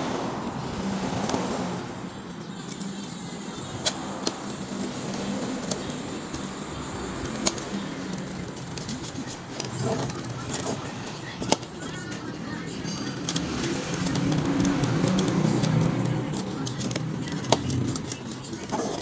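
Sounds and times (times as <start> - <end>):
sharp metal clicks: 2.4 - 19.0.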